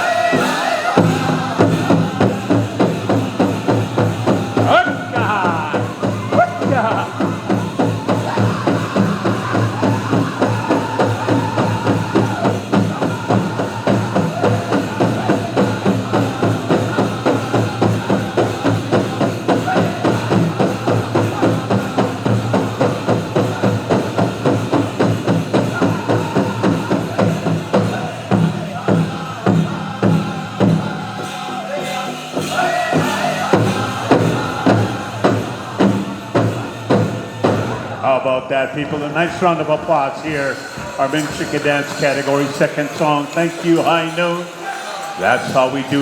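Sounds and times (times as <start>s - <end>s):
big drum beating: 0.0s - 38.0s
group singing: 0.0s - 46.0s.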